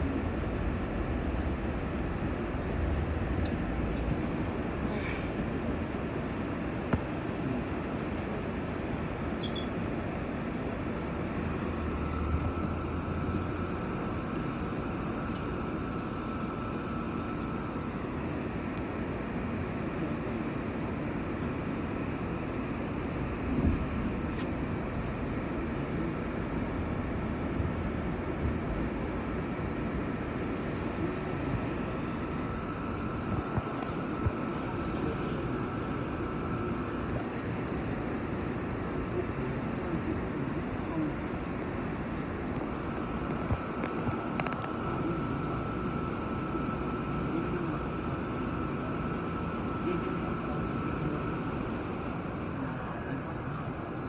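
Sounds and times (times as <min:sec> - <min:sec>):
subway car rumble and hiss: 0:00.0 - 0:54.0
thin steady whine: 0:00.0 - 0:54.0.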